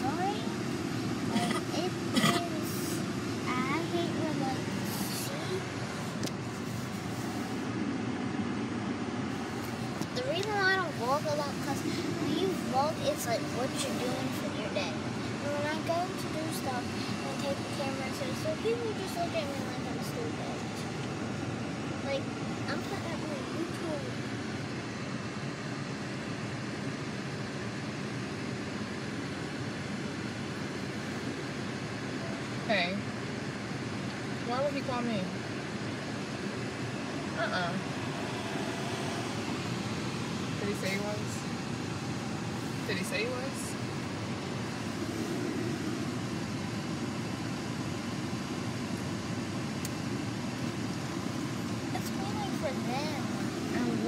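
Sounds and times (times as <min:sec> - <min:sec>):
car interior hum and rush: 0:00.0 - 0:54.0.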